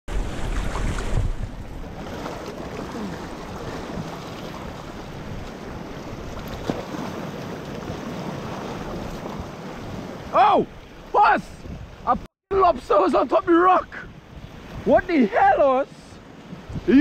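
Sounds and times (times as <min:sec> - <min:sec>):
surf washing over rocks: 0:00.1 - 0:17.0.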